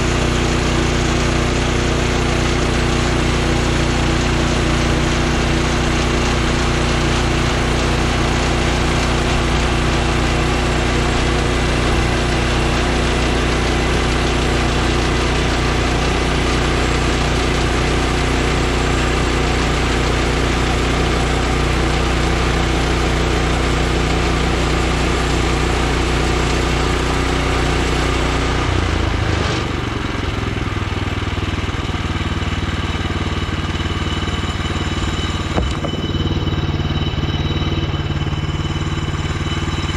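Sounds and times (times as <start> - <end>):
bandsaw mill cutting log: 0.0 - 39.9.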